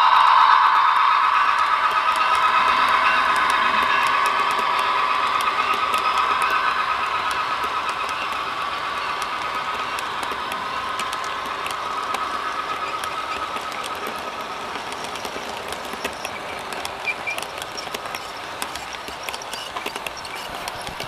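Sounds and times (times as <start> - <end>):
high whine: 0.0 - 18.0
model train clicking over rail joints: 1.5 - 21.0.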